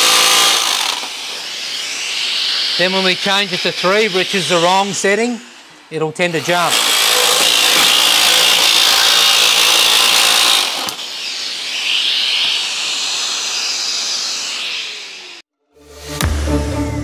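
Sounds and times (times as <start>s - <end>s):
dust extractor running: 0.0s - 15.4s
jigsaw cutting sheet metal: 0.0s - 15.5s.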